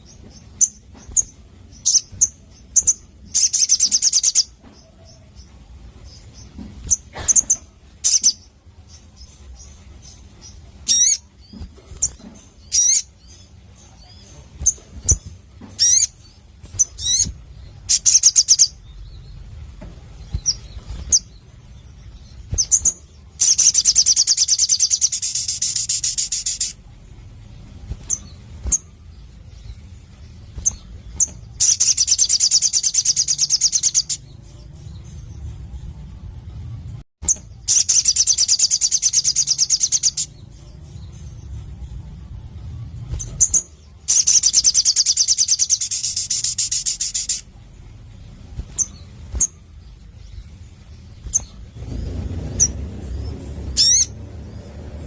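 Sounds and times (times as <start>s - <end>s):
songbird chips and trills: 0.0s - 55.0s.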